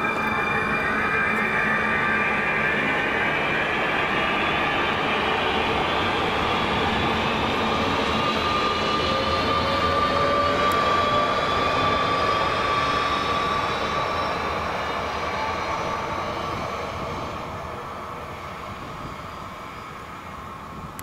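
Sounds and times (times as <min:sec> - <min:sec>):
train traction motors whining: 0:00.0 - 0:21.0.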